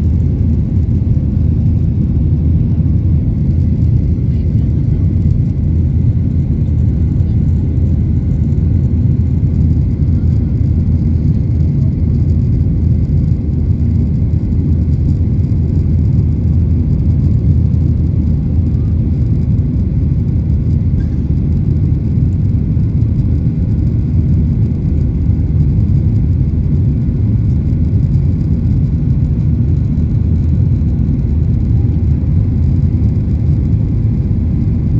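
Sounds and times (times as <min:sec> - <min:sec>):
aircraft engines rumbling: 0:00.0 - 0:34.9.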